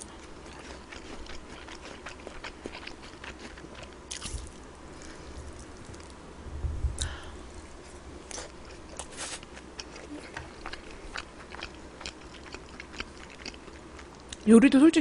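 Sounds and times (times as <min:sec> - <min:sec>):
person chewing and biting food: 0:00.0 - 0:06.2, 0:07.0 - 0:14.4.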